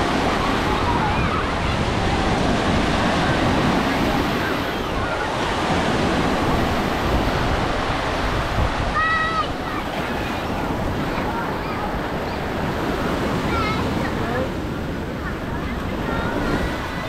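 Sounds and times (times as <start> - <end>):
waves breaking on beach: 0.0 - 17.0
wind buffeting microphone: 0.0 - 17.0.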